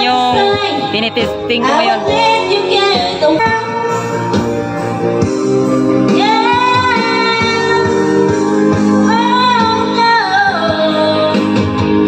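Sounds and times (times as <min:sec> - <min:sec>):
person singing through pa speakers: 0:00.0 - 0:04.5, 0:06.1 - 0:12.0
guitar backing track: 0:00.0 - 0:12.0.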